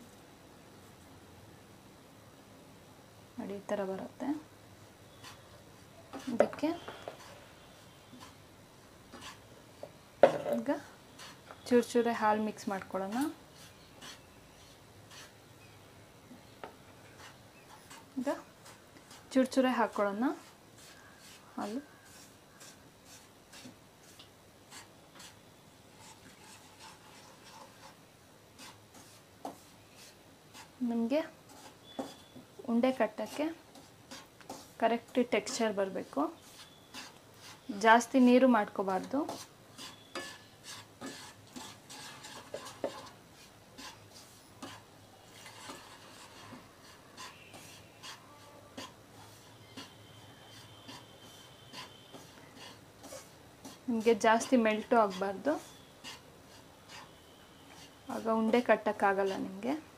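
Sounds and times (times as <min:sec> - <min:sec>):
wooden spatula scraping pan: 0:05.1 - 0:08.4, 0:09.1 - 0:15.4, 0:16.9 - 0:59.9.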